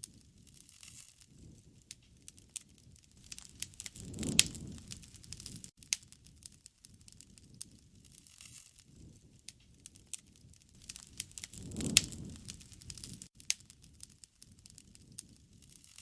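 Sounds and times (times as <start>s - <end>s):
rush of flame: 0.0s - 16.0s
wood fire crackling: 0.0s - 16.0s.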